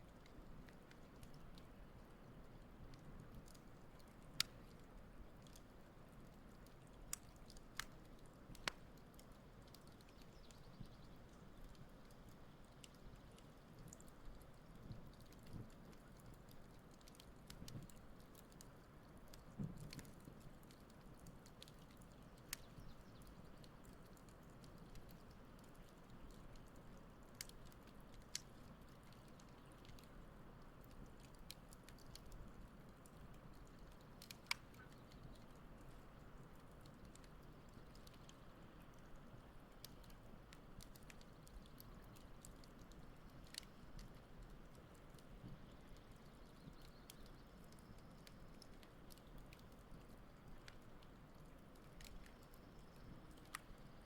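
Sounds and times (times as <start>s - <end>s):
campfire crackling: 0.0s - 54.0s
low steady hiss: 0.0s - 54.0s.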